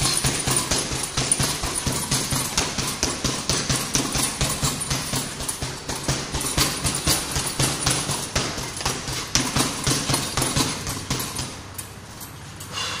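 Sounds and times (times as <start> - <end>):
punches on heavy bag: 0.0 - 11.6.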